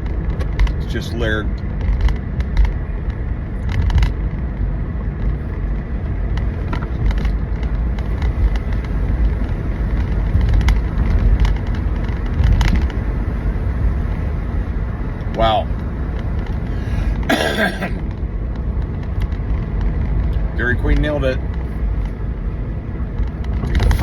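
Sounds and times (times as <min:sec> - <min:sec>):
car cabin road noise: 0:00.0 - 0:24.0.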